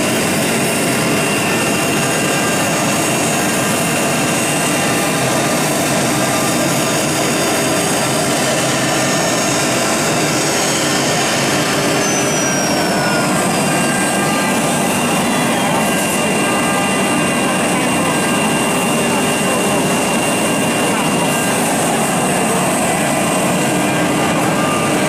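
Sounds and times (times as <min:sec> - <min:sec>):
router spindle whine: 0:00.1 - 0:25.0.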